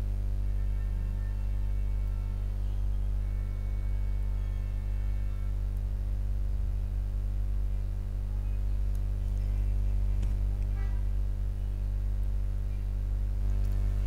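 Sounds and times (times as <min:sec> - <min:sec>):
low electrical mains hum: 0:00.0 - 0:14.0.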